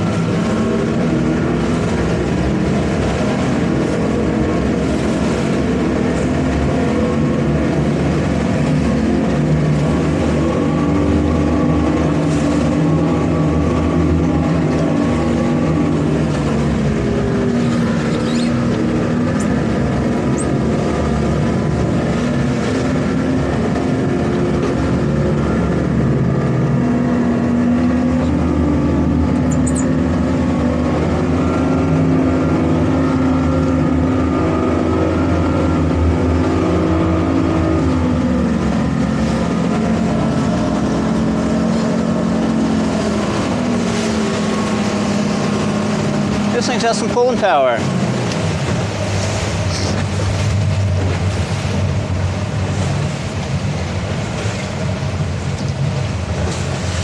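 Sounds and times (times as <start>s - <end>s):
outboard engines droning: 0.0s - 57.0s
water rushing in wake: 0.0s - 57.0s.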